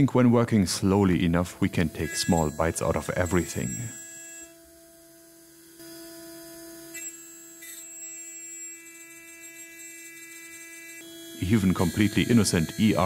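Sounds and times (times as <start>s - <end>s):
milling spindle humming: 0.5s - 13.0s.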